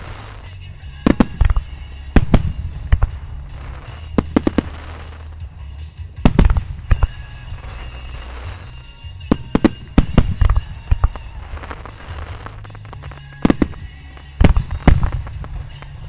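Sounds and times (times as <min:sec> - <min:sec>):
firework shells bursting: 0:00.0 - 0:16.0
music from loudspeakers: 0:00.0 - 0:16.0.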